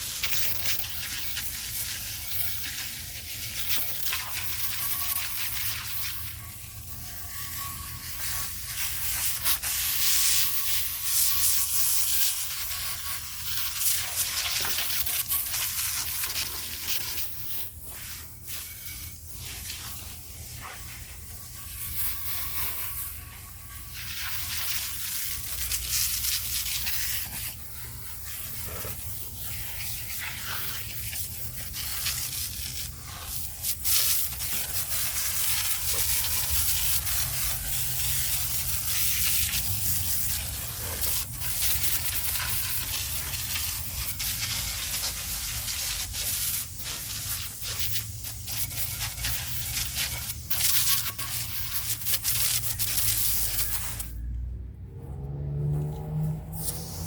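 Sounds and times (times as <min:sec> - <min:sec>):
brush scrubbing concrete: 0:00.0 - 0:54.2.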